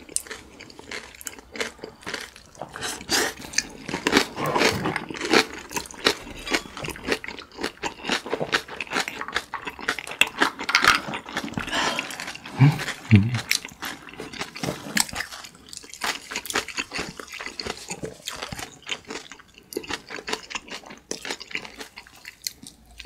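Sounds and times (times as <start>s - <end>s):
squishy chewing of noodles: 0.0s - 23.0s
wet crunching of cabbage: 0.0s - 23.0s.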